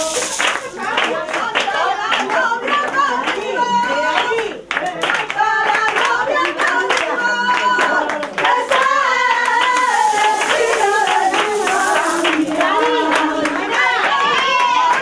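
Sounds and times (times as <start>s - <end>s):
people clapping in rhythm: 0.0s - 15.0s
people talking: 0.0s - 15.0s
voices singing along: 0.0s - 15.0s.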